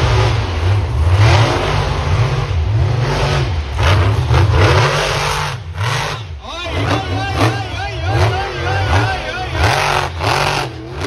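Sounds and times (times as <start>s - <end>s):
monster truck engines revving: 0.0s - 11.0s.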